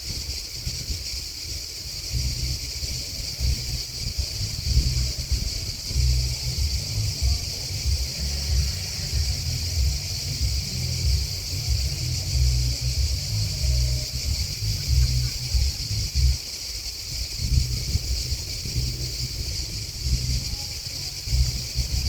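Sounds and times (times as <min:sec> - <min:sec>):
grasshoppers and crickets chirping: 0:00.0 - 0:22.0
low uneven rumble: 0:00.0 - 0:22.0.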